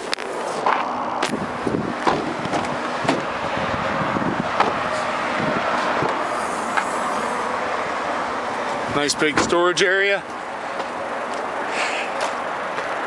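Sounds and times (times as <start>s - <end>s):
footsteps on gritty pavement: 0.0s - 3.5s, 4.4s - 7.0s, 8.5s - 13.0s
outdoor background noise: 0.0s - 13.0s.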